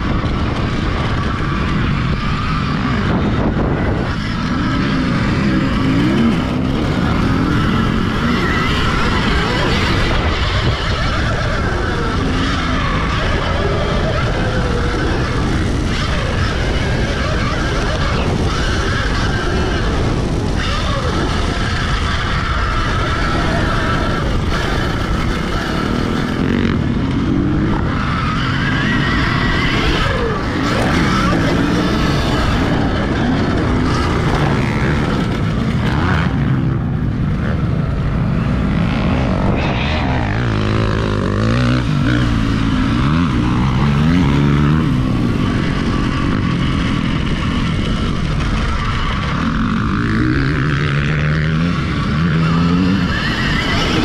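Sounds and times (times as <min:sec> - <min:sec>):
electric motorbike motor whine: 0:00.0 - 0:54.0
wind buffeting a camera: 0:00.0 - 0:54.0.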